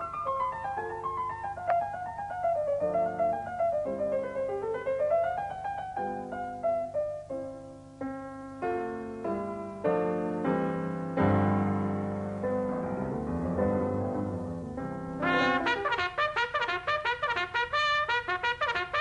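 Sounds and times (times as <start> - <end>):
piano runs and chords: 0.0 - 16.1.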